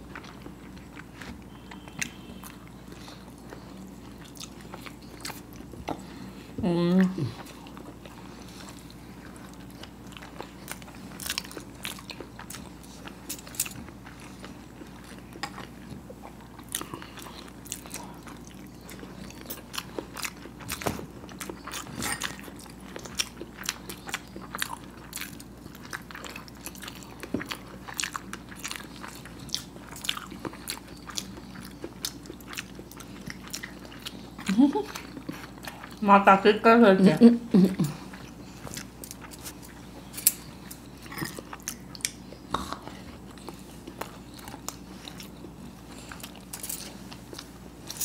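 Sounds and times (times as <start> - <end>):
people biting and chewing: 7.0 - 36.0, 37.7 - 48.0.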